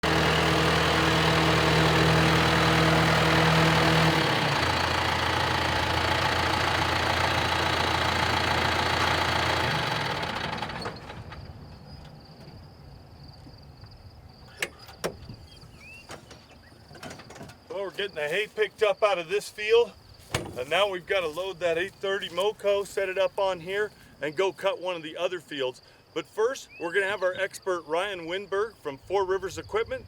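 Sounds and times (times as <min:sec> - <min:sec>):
tractor engine running: 0:00.0 - 0:24.2.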